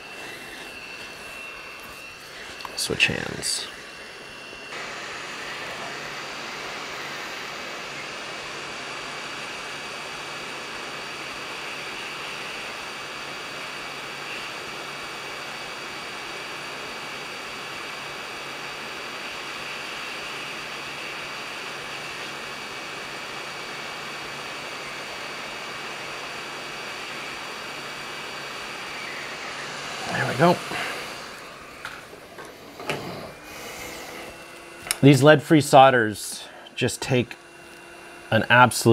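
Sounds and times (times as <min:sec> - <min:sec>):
hissing hot air blower: 0:00.0 - 0:38.9.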